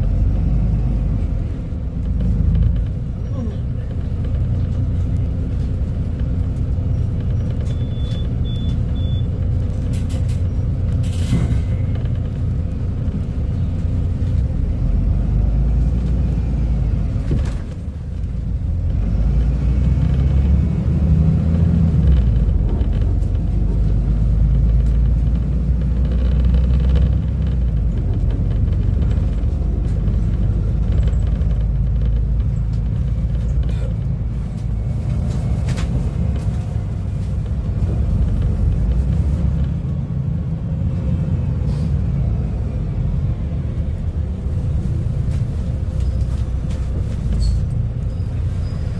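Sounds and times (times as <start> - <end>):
bus engine rumbling: 0.0 - 48.9.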